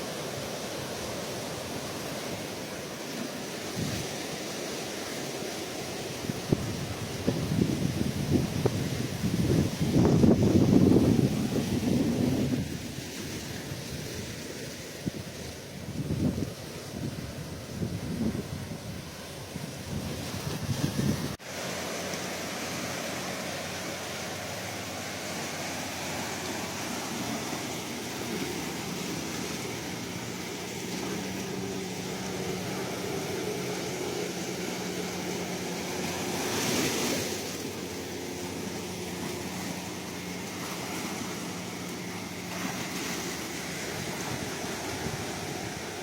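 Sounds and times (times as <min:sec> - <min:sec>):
ocean surf washing: 0:00.0 - 0:46.0.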